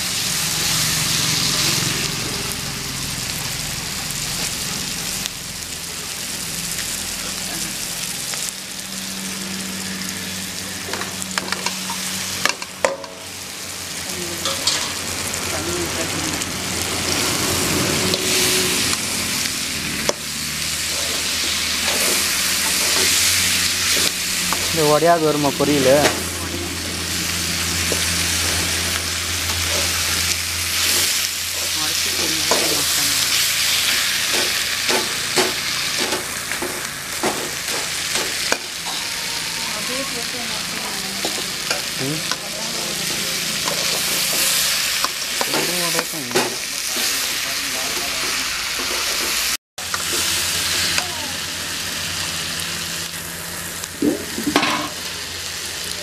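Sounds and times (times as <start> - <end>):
food sizzling in a metal pan: 0.0 - 56.0.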